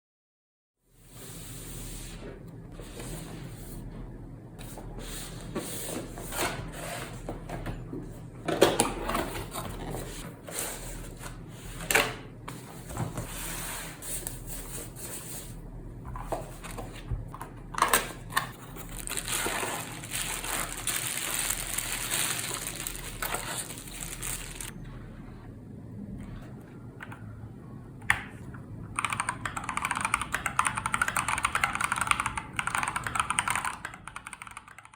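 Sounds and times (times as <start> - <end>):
low steady hum: 0.9 - 33.1.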